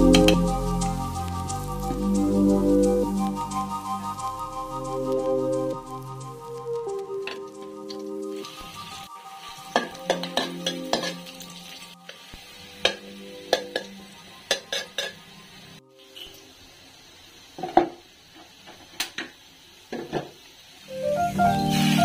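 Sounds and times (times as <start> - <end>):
faint sizzling: 0.0 - 22.0.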